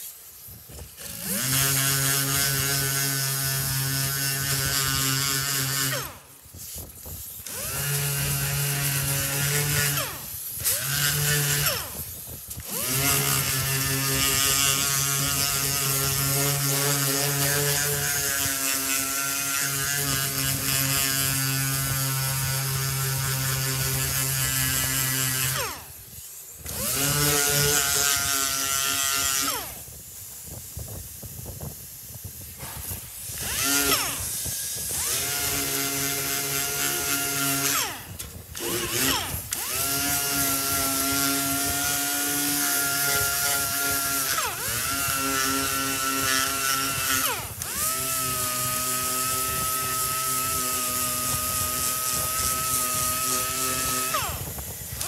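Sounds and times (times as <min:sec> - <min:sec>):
orbital sander whining: 0:00.0 - 0:55.0.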